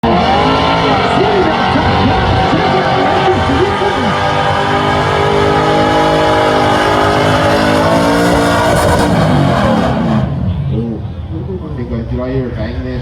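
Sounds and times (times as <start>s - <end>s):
car engine revving hard: 0.0s - 10.8s.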